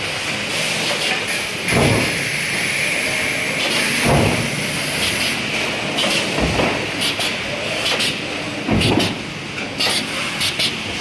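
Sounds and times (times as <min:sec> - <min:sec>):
machinery hiss: 0:00.1 - 0:11.0.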